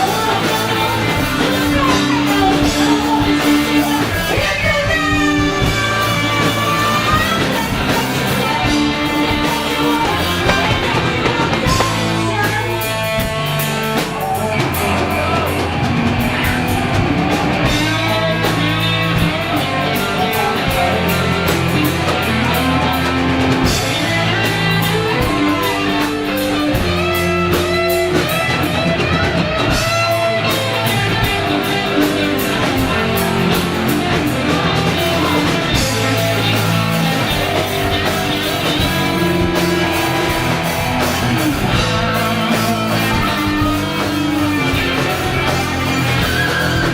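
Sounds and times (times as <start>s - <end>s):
live funky rock band: 0.0s - 46.9s.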